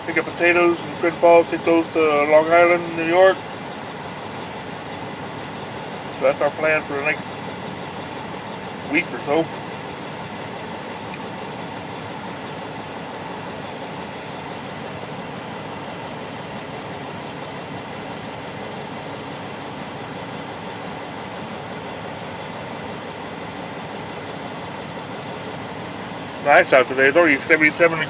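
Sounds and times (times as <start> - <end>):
air-conditioning fan whirring: 0.0 - 28.0
truck engine idling: 0.0 - 28.0.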